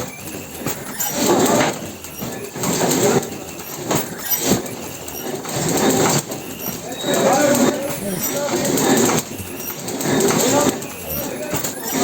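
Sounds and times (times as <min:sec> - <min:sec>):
packaging machine running: 0:00.0 - 0:12.0.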